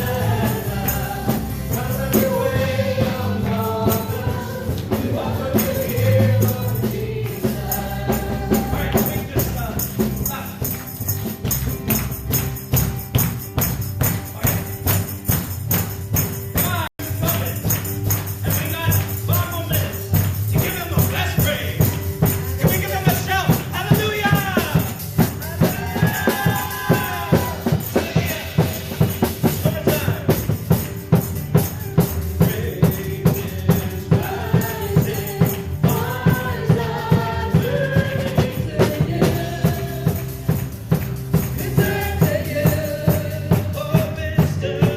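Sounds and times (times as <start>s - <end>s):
people singing: 0.0s - 11.8s, 16.6s - 30.5s, 31.5s - 44.9s
worship song with steady beat: 0.0s - 44.9s.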